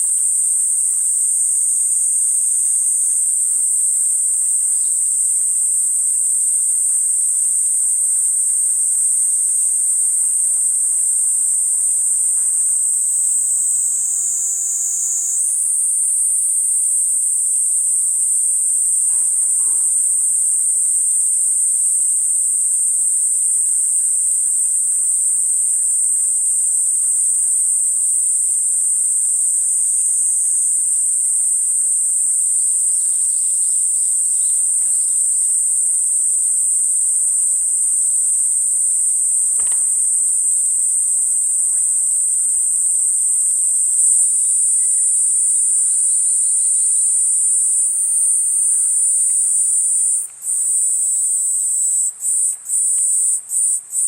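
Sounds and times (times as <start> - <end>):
cicada buzzing drone: 0.0 - 54.0.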